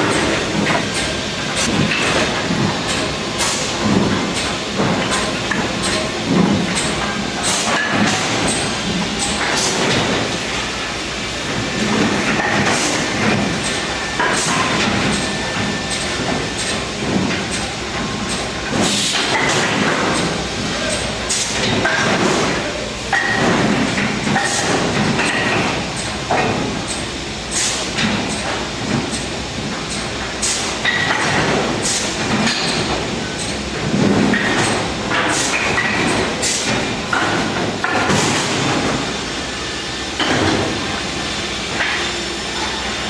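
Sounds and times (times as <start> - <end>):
steady mechanical noise: 0.0 - 43.0.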